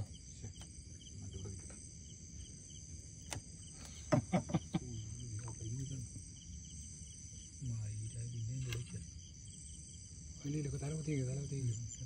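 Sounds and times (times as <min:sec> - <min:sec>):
crickets trilling: 0:00.0 - 0:12.0
pulsing insect chirp: 0:00.0 - 0:12.0.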